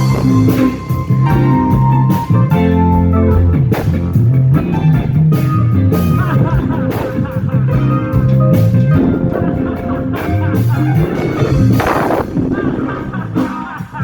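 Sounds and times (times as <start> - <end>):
bass line: 0.0 - 14.0
guitar: 0.0 - 14.0
steady drum beat: 0.0 - 14.0.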